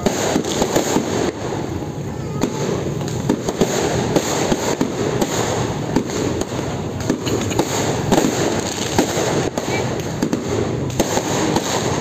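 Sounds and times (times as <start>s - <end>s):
continuous rumble: 0.0s - 12.0s
fireworks bangs and crackles: 0.0s - 12.0s.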